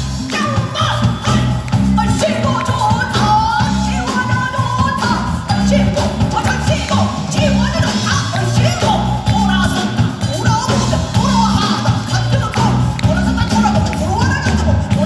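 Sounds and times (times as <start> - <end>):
heavy bass beat: 0.0 - 15.0.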